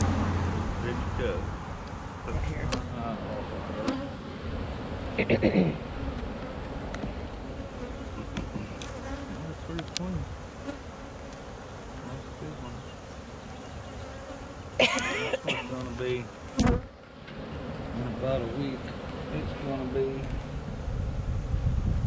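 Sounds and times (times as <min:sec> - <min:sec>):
honey bees buzzing: 0:00.0 - 0:21.3.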